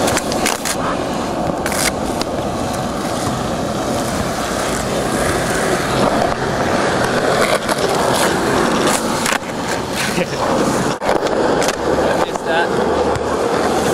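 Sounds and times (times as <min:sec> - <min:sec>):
skateboard wheels rolling: 0:00.0 - 0:13.9.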